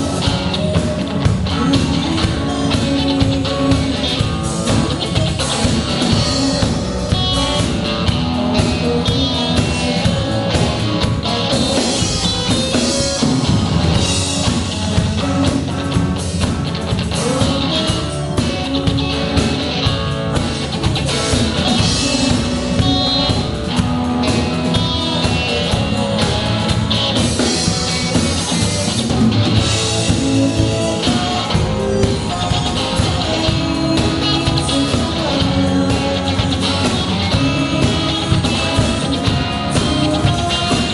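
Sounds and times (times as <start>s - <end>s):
drum kit beat: 0.0s - 40.9s
guitar: 0.0s - 40.9s
rock band playing: 0.0s - 40.9s.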